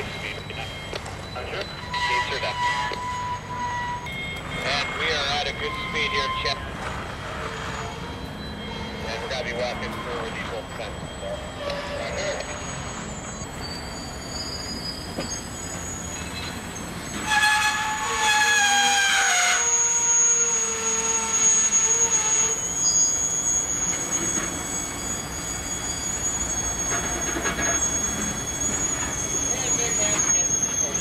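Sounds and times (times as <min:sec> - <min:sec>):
train wheels squealing on rails: 0:00.0 - 0:31.0.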